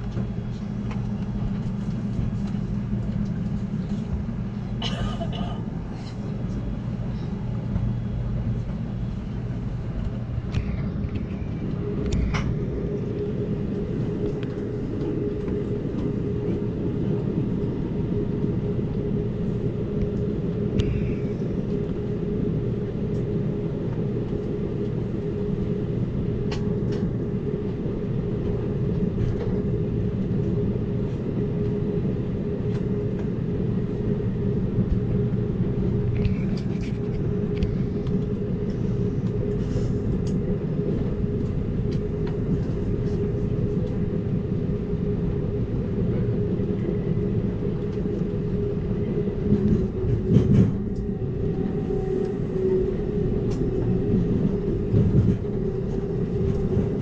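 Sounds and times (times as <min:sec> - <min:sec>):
constant hum: 0:00.0 - 0:57.0
train wheels rumbling on rails: 0:00.0 - 0:57.0.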